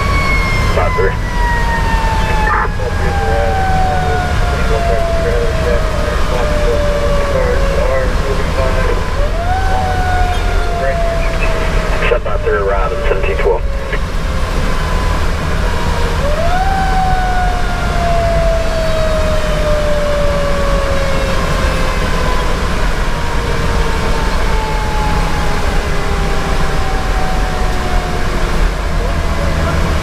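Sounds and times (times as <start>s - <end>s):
fire engine rumble: 0.0s - 30.0s
mechanical siren wailing: 0.0s - 30.0s.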